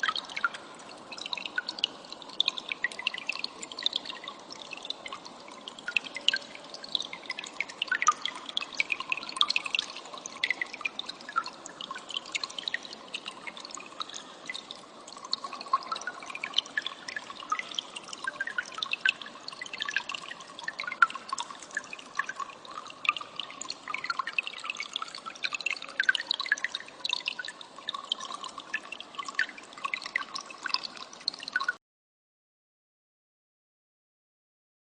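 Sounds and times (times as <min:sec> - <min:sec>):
trickle of running water: 0:00.0 - 0:31.8.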